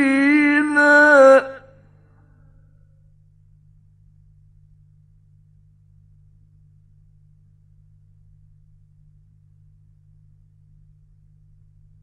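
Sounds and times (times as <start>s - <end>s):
faint recording hiss: 0.0s - 12.0s.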